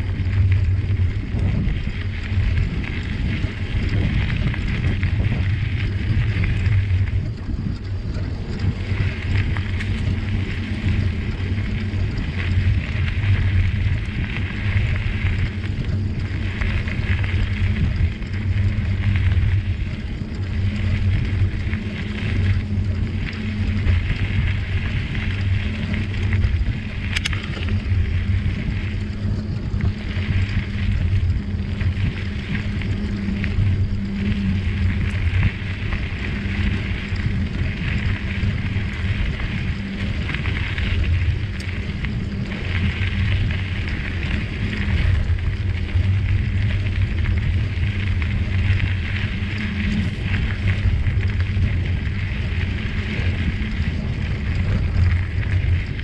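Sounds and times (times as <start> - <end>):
bicycle tyres rolling on trail: 0.0 - 56.0
wind buffeting microphone: 0.0 - 56.0.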